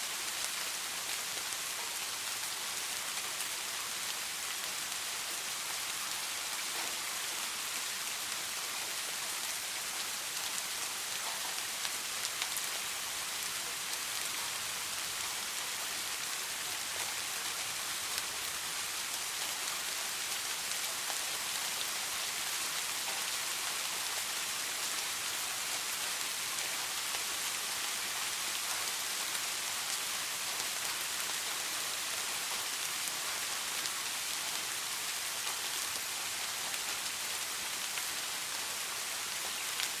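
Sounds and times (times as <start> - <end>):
patter of raindrops: 0.0 - 40.0
soft rain falling: 0.0 - 40.0.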